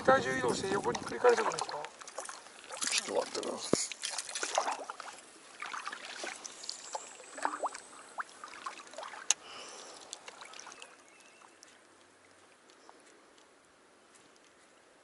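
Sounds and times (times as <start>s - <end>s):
paddle splashing water: 0.0s - 13.4s.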